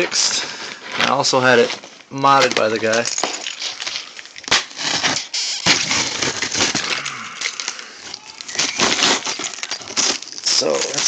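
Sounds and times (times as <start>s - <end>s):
packaging crinkling and crackling: 0.0s - 11.0s.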